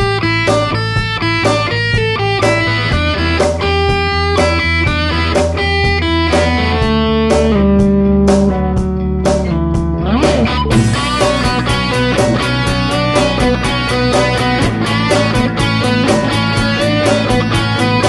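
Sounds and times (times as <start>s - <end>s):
electric guitar music with bass: 0.0s - 18.0s.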